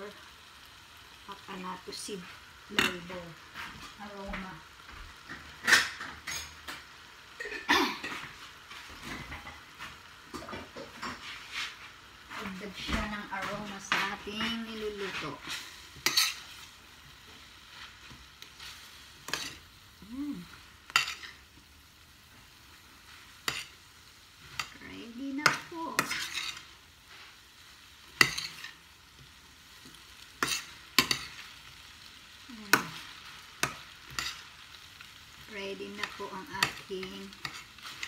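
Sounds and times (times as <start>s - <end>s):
faint frying sizzle: 0.0s - 38.0s.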